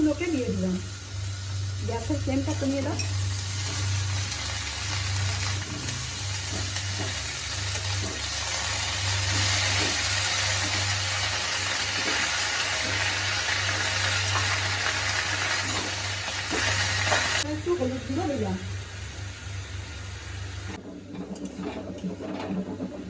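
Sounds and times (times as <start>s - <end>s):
greens sizzling in hot oil: 0.0s - 20.8s.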